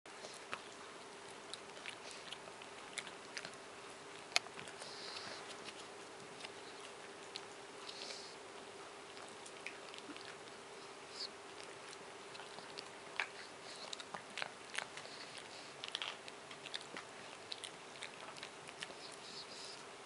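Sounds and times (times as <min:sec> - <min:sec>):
dog gnawing a bone: 0:00.1 - 0:19.9
faint steady hum: 0:00.1 - 0:20.0.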